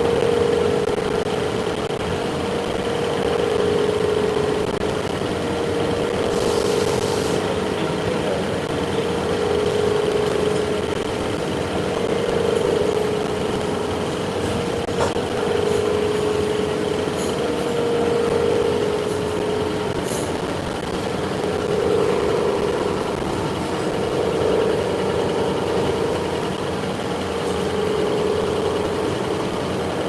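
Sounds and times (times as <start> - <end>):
machine tool humming: 0.0 - 30.0.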